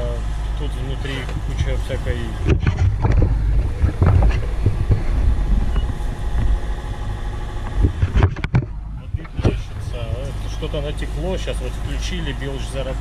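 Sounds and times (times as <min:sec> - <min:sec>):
wind and sea rumble: 0:00.0 - 0:13.0.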